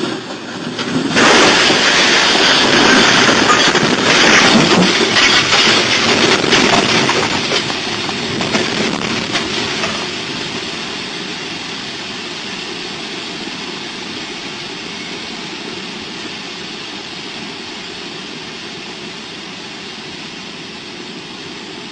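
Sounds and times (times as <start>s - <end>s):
train running by: 0.0s - 21.9s.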